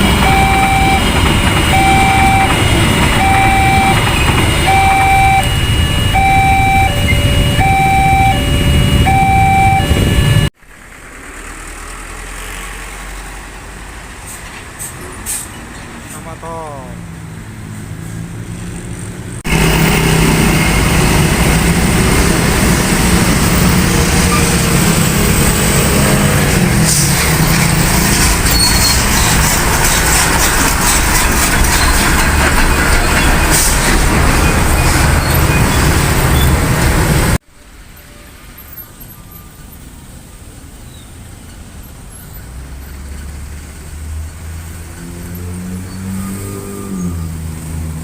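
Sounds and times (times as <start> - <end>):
heavy vehicle engine drone: 0.0 - 48.0
passing traffic: 0.0 - 48.0.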